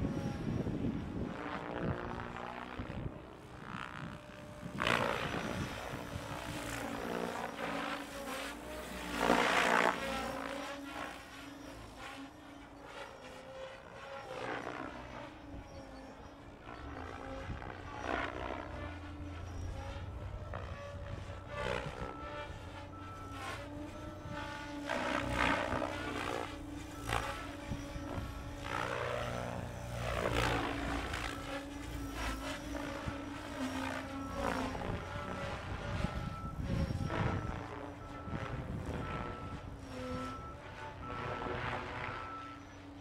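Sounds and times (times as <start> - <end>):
motor and gear whine: 0.0 - 43.0.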